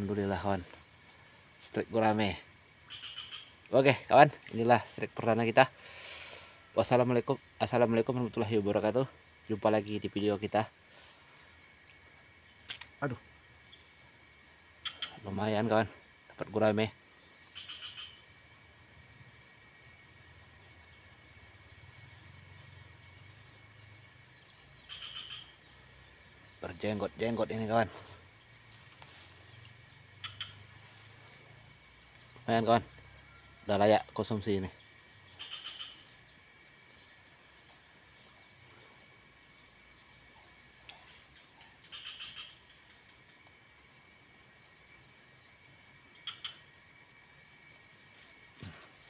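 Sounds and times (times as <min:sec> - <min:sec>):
insects chorus: 0:00.0 - 0:49.0.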